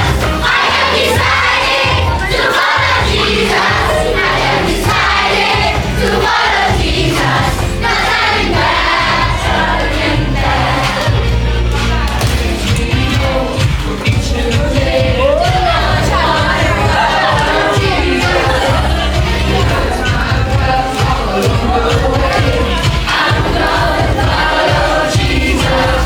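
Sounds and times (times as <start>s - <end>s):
group singing: 0.0s - 26.0s
worship music with steady beat: 0.0s - 26.0s.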